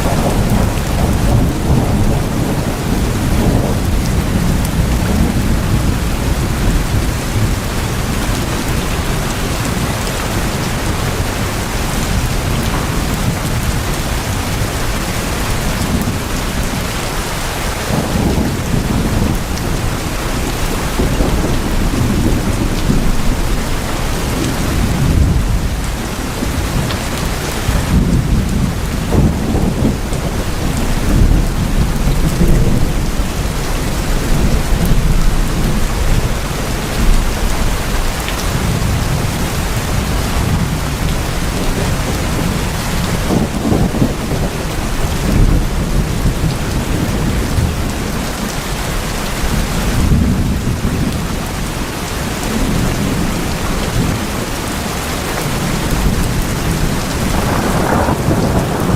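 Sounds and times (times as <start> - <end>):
heavy rain on tin roofs: 0.0 - 58.9.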